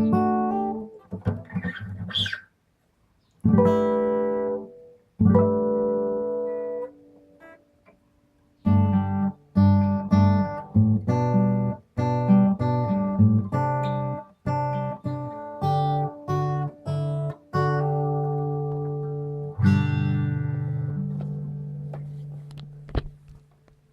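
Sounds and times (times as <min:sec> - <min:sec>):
acoustic guitar strummed chords: 0:00.0 - 0:02.4, 0:03.5 - 0:07.9, 0:08.6 - 0:23.3.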